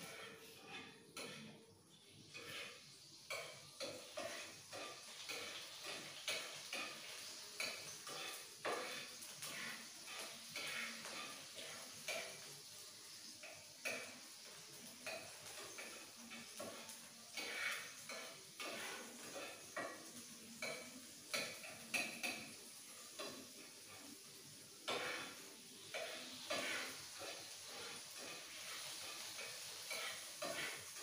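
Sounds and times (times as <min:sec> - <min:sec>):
frying sizzle: 0:00.0 - 0:31.0
metal spatula scraping a pan: 0:00.0 - 0:31.0.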